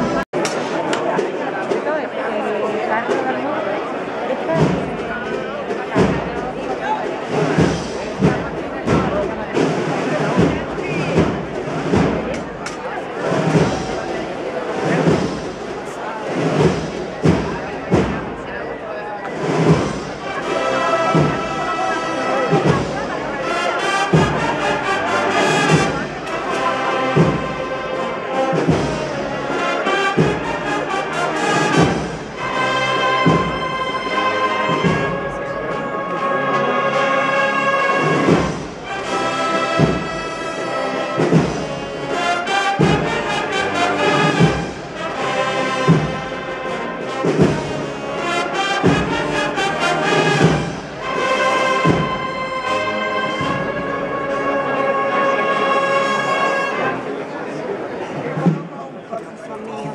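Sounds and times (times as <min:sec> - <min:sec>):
brass band slow march: 0:00.0 - 0:58.8
drum strokes: 0:04.3 - 0:54.6.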